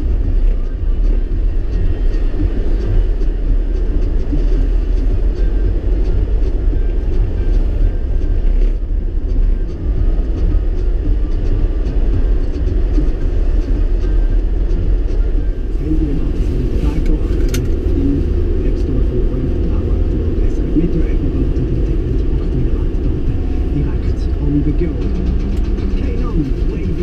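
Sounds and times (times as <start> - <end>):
vehicle road noise rumble: 0.0 - 27.0.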